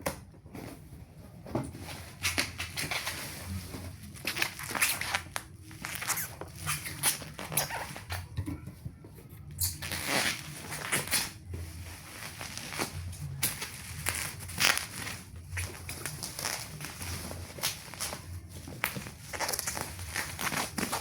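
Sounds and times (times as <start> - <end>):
packaging rustling and crinkling: 0.4 - 8.1, 9.8 - 21.0.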